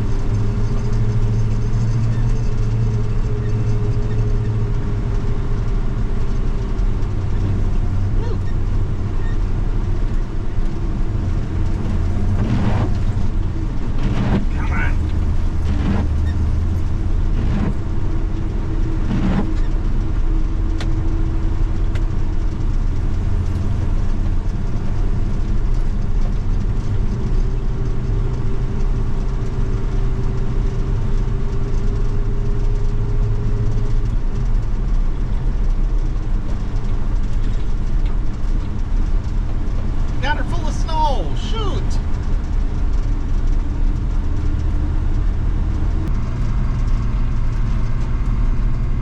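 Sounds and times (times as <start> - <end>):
pickup truck engine droning: 0.0 - 49.0.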